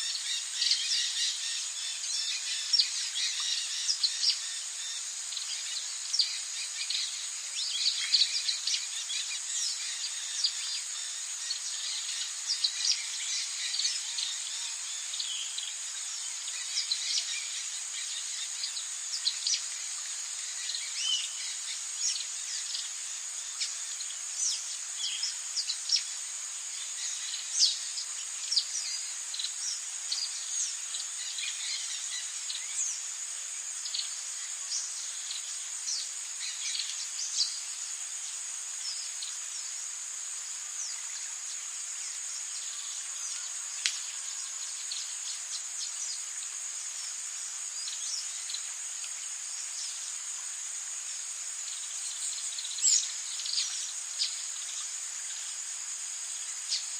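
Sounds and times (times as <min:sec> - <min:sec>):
high-pitched insect drone: 0:00.0 - 0:56.9.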